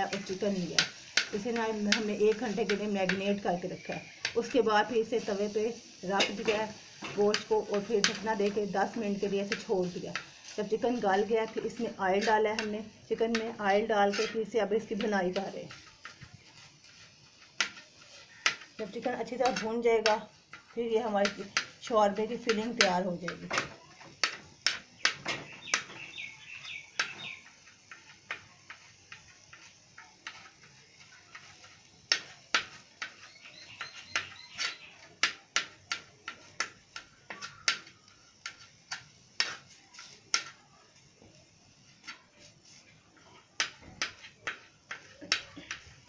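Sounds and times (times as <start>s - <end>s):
metal utensils scraping a griddle: 3.8s - 26.1s, 26.9s - 46.0s.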